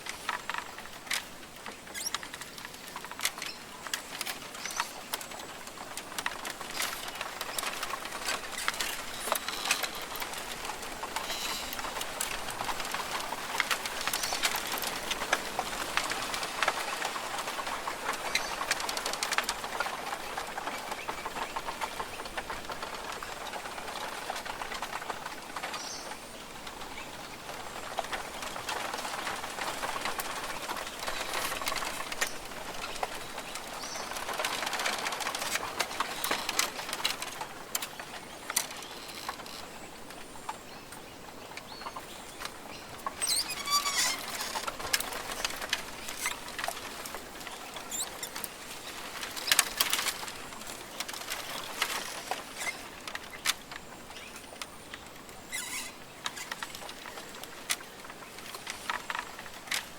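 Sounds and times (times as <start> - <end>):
rustling patter and clicks: 0.0 - 59.9.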